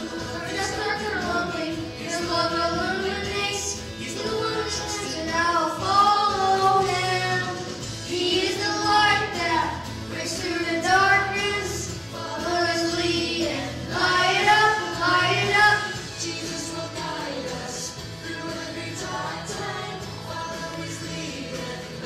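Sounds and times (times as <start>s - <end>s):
woman and children singing: 0.0s - 22.0s.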